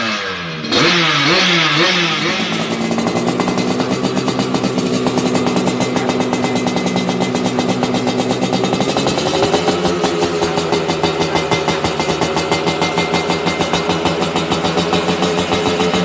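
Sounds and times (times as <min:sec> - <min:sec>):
two-stroke motorcycle engine: 0:00.0 - 0:16.0.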